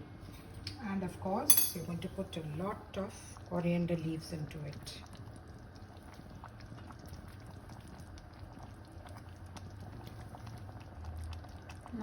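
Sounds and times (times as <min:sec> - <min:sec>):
gravy bubbling in a pot: 0:00.8 - 0:12.0.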